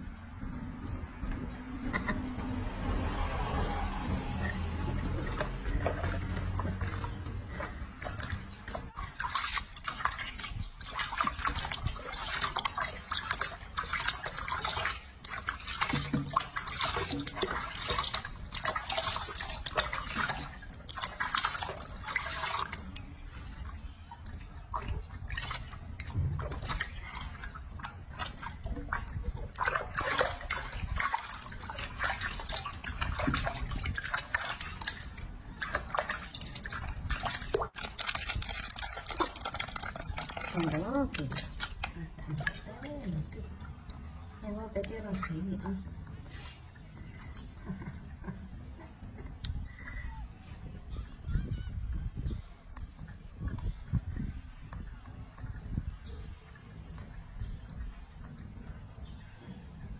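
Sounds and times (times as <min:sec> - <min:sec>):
water dripping: 0:00.0 - 0:50.3
water splashing in a basin: 0:00.0 - 0:59.9.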